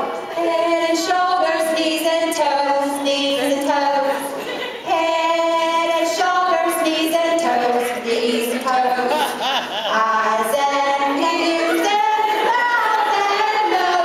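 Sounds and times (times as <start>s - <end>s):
women singing: 0.0s - 14.0s.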